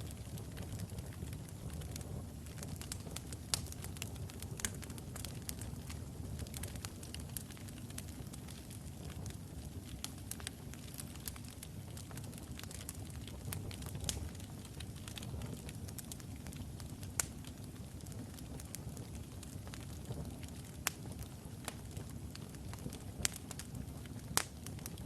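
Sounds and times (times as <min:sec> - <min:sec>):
fire crackles and pops: 0:00.0 - 0:25.0
fire flames rumbling: 0:00.0 - 0:25.0.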